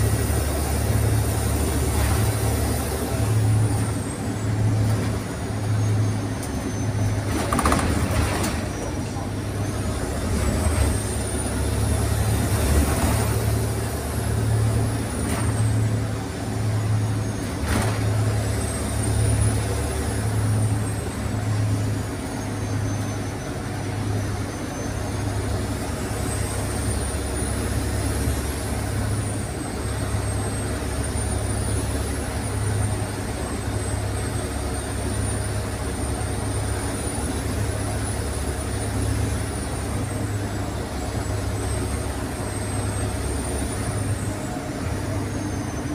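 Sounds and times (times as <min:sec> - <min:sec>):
bus engine drone: 0:00.0 - 0:45.9
road noise: 0:00.0 - 0:45.9.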